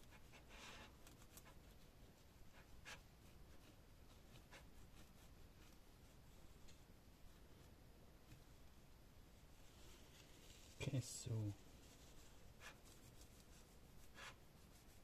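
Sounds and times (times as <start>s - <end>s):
rubbing and scratching: 0.0s - 8.7s, 9.4s - 15.0s.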